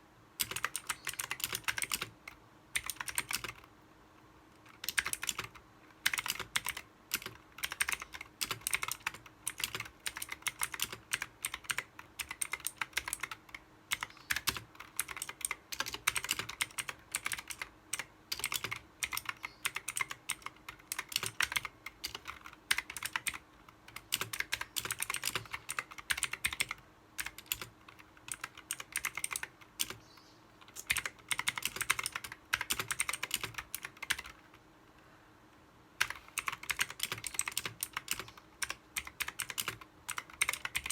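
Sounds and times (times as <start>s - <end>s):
faint steady hum: 0.0s - 40.9s
mechanical keyboard typing: 0.4s - 3.7s, 4.5s - 30.0s, 30.6s - 34.6s, 36.0s - 40.9s.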